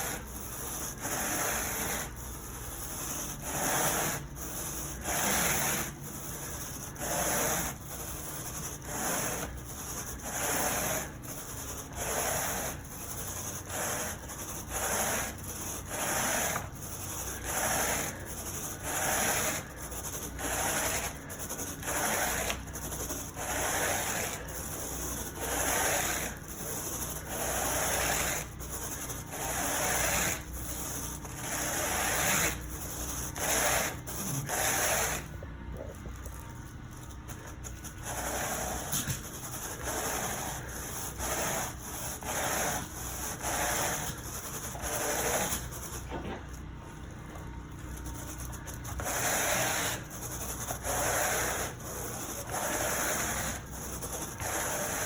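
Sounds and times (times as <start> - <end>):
carpet rake raking carpet: 0.0 - 55.0.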